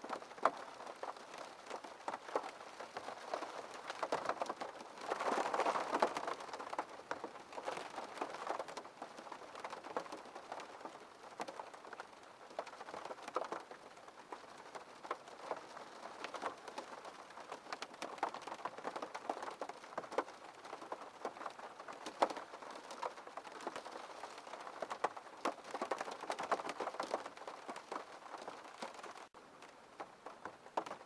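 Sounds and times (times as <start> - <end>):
rain on a window pane: 0.0 - 31.0.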